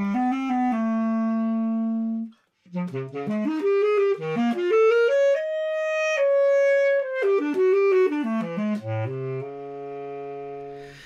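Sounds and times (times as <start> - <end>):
basset horn solo: 0.0 - 11.0.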